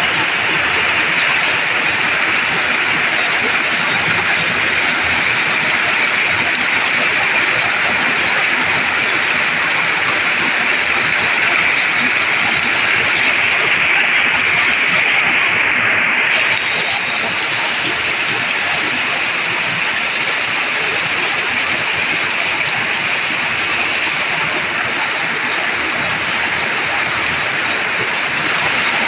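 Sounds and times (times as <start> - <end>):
heavy rain on plants and ground: 0.0 - 29.0
water pouring off a roof: 0.0 - 29.0.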